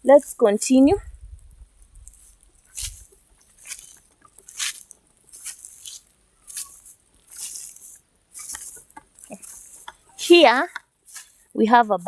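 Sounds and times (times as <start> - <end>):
footsteps crunching on dry vegetation: 1.3 - 11.6.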